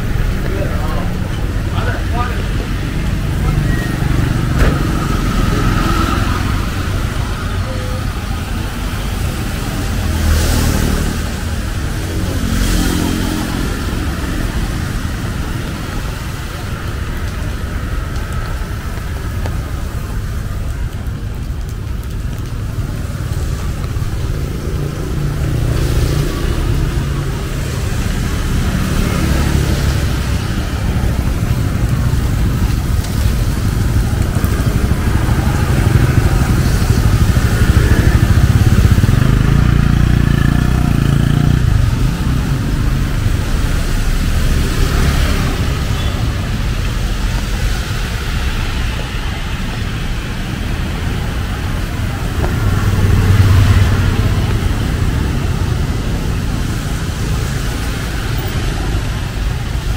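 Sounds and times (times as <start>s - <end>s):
motorbikes and cars passing: 0.0s - 59.9s
tyres on wet road: 0.0s - 59.9s.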